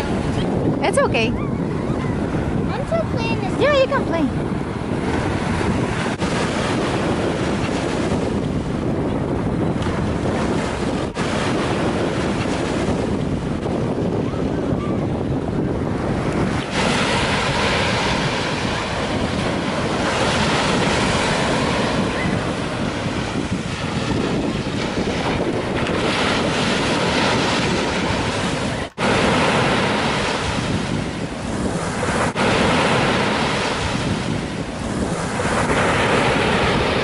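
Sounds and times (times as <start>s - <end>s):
surf breaking on beach: 0.0s - 37.0s
wind buffeting microphone: 0.0s - 37.0s.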